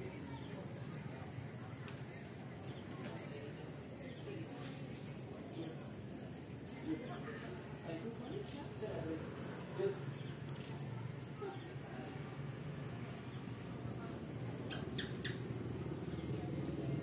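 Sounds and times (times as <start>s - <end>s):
faint murmur: 0.0s - 17.0s
high-pitched insect trill: 0.0s - 17.0s.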